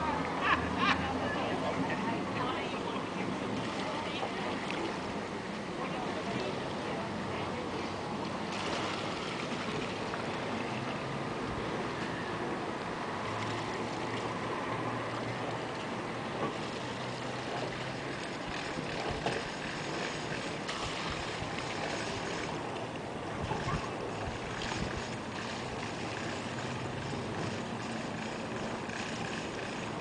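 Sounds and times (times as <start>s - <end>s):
boat engine humming: 0.0s - 30.0s
water noise: 0.0s - 30.0s
wind: 0.0s - 30.0s.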